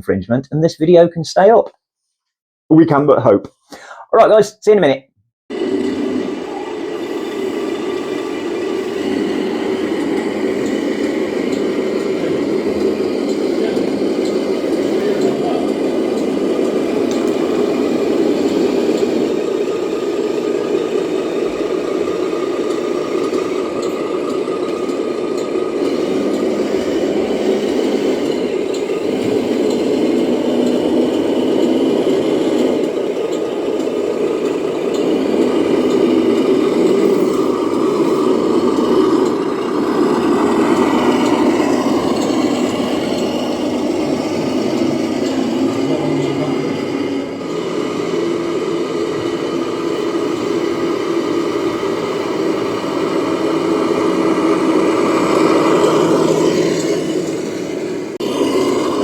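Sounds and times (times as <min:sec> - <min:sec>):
model trucks droning: 0:05.5 - 0:59.0.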